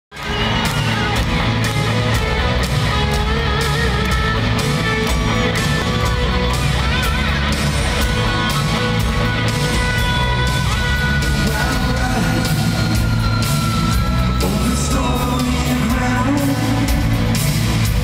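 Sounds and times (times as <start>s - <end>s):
electric guitars: 0.1s - 18.0s
steady drum beat: 0.2s - 18.0s.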